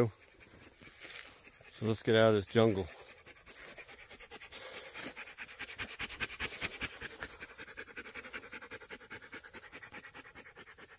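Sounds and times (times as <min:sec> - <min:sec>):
dog panting: 0:00.0 - 0:10.9.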